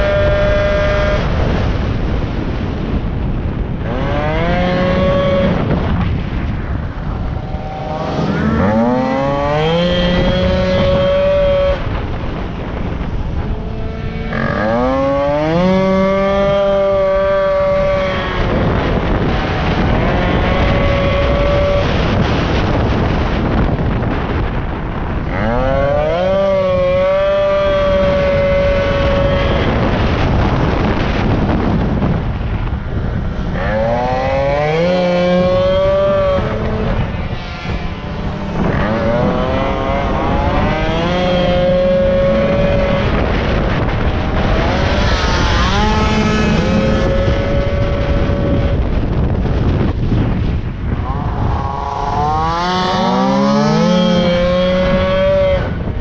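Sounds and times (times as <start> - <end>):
wind on microphone: 0.0 - 56.0
moped engine revving: 3.8 - 23.3, 25.0 - 56.0.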